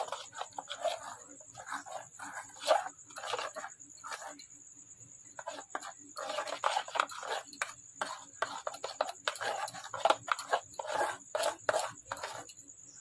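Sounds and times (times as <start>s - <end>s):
fingers scraping batter in metal bowl: 0.0s - 4.4s, 5.4s - 12.6s.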